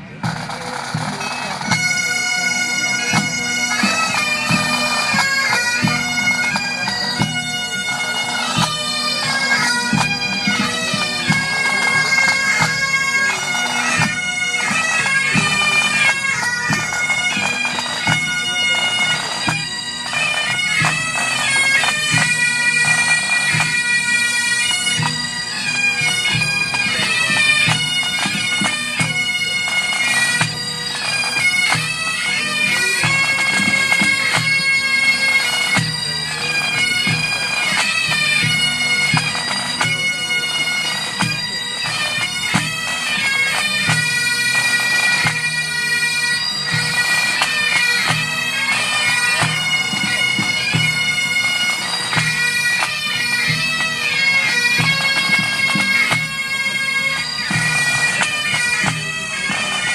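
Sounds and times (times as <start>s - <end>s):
bagpipes playing melody: 0.0s - 59.9s.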